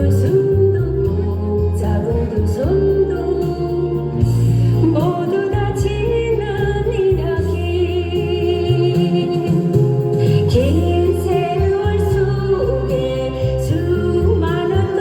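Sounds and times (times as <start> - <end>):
band accompaniment with bass line: 0.0 - 15.0.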